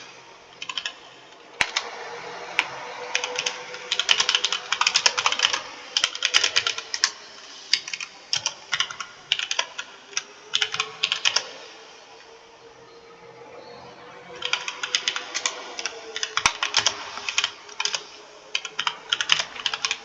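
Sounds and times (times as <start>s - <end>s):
computer keyboard typing: 0.6s - 1.9s, 2.5s - 11.6s, 14.4s - 20.0s.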